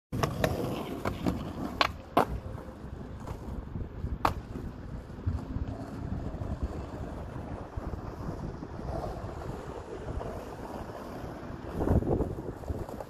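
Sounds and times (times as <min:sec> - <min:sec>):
skateboard wheels rumbling: 0:00.1 - 0:13.0
skateboard clacking on ground: 0:00.2 - 0:13.0.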